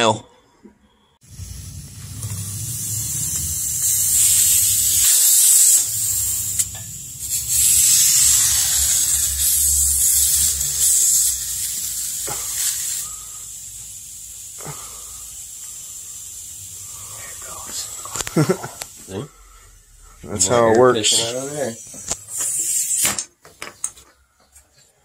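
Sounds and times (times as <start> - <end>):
pressurised air hissing: 1.2 - 20.3, 21.0 - 23.2.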